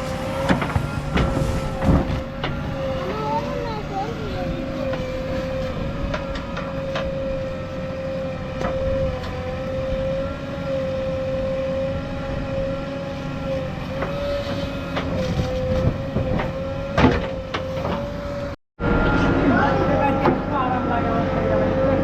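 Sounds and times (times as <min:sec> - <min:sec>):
backhoe loader engine running: 0:00.0 - 0:18.6, 0:19.2 - 0:22.0
wavering whine: 0:00.0 - 0:22.0.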